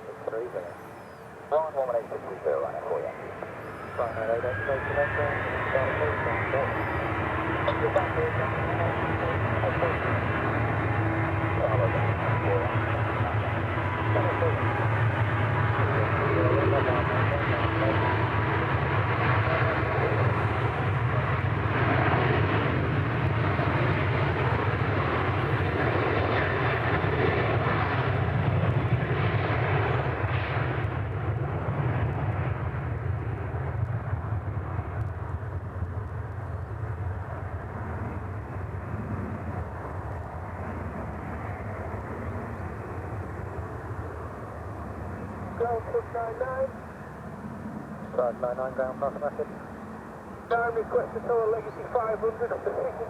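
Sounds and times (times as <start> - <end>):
jet engines at takeoff power: 0.0 - 53.0.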